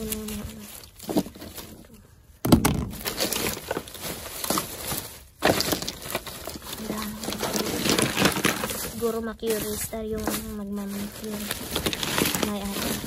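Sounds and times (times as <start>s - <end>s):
plastic bag rustling: 0.0s - 13.0s
small items knocking together: 0.0s - 13.0s.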